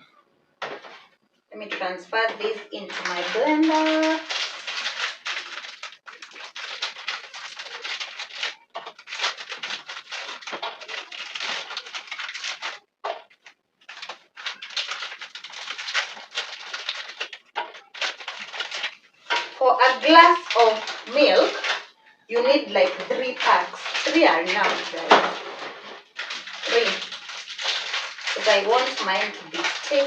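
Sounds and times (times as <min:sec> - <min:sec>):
plastic packets crinkling: 0:00.6 - 0:30.0.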